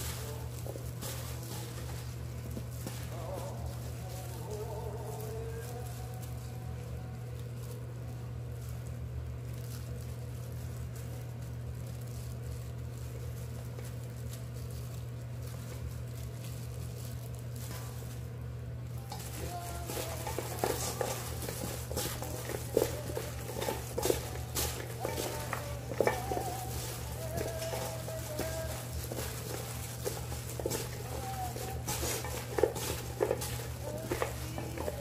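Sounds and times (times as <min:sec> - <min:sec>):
peppers rustling in flour: 0:00.0 - 0:35.0
steady low hum: 0:00.0 - 0:35.0.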